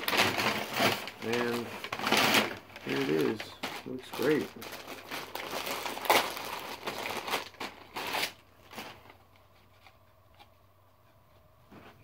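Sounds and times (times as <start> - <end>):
plastic bag crinkling: 0.0 - 9.9
faint handling sounds: 0.0 - 12.0.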